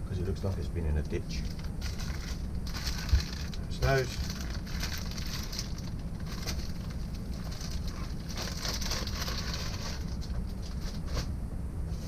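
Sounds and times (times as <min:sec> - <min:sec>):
steady low rumble: 0:00.0 - 0:12.0
rustling of bagged small parts: 0:01.4 - 0:11.3.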